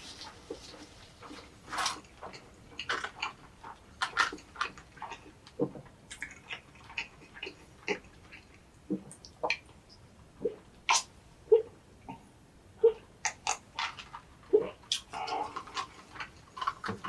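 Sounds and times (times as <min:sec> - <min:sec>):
close chewing and biting: 0:00.0 - 0:09.8, 0:12.8 - 0:17.0.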